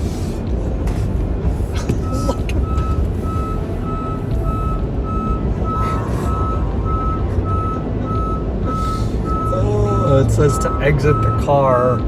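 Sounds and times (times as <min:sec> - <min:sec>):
car wash machinery rumble: 0:00.0 - 0:12.0
high electronic beeps: 0:02.0 - 0:12.0.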